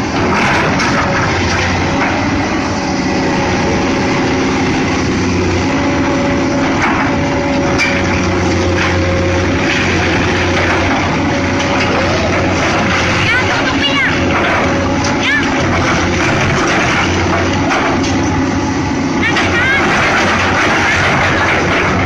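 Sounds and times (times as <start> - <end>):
demolition knocks: 0.0 - 18.4, 19.2 - 22.0
excavator diesel engine: 0.0 - 22.0.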